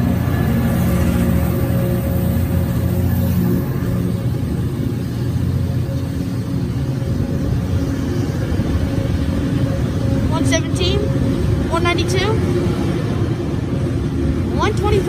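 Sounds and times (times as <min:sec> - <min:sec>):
diesel locomotive engine throbbing: 0:00.0 - 0:15.0
steady higher hum: 0:00.0 - 0:15.0.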